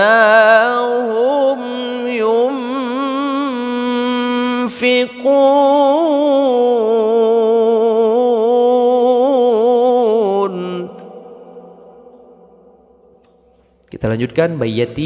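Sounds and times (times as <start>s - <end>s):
man reciting melodically: 0.0s - 12.1s, 13.8s - 15.0s.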